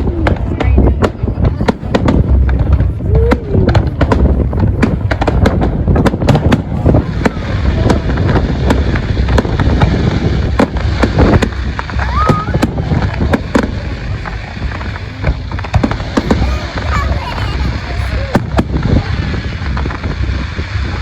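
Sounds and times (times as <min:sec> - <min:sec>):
deep continuous rumble: 0:00.0 - 0:21.0
fireworks bangs and crackles: 0:00.0 - 0:21.0.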